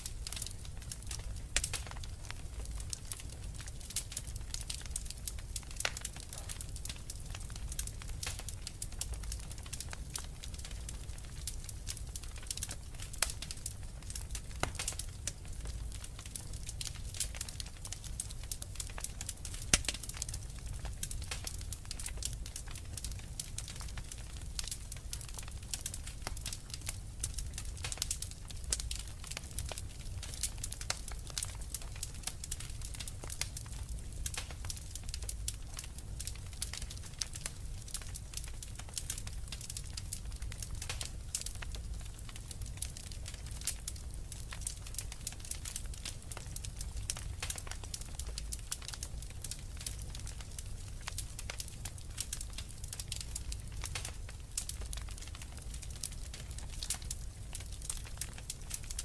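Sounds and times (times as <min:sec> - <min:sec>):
low rumble of fire: 0:00.0 - 0:59.0
wood fire crackling: 0:00.0 - 0:59.0.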